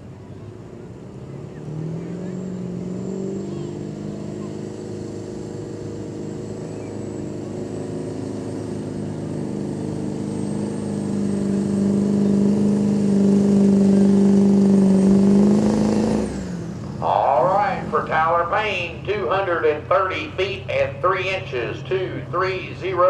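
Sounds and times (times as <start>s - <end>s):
truck engine running hard: 0.0s - 23.0s.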